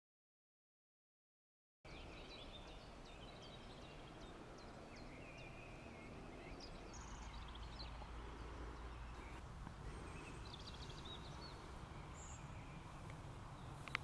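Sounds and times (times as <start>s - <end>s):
songbirds chirping: 1.9s - 14.0s.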